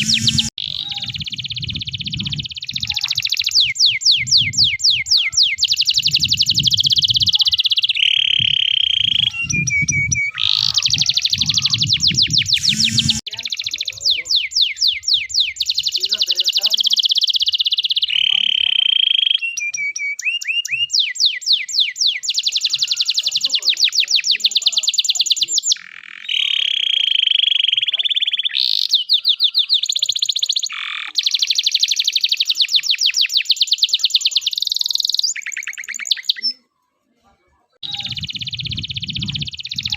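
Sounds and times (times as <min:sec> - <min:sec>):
canary singing trills: 0:00.0 - 0:36.8, 0:37.8 - 0:39.9.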